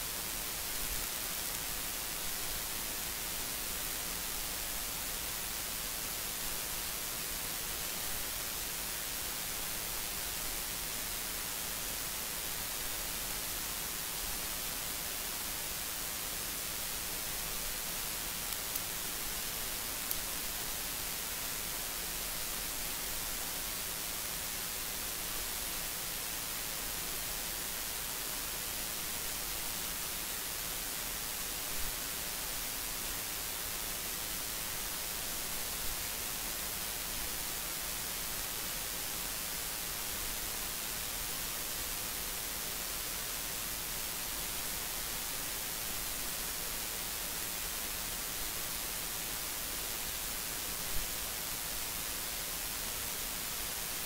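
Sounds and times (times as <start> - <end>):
recording hiss: 0.0 - 54.0.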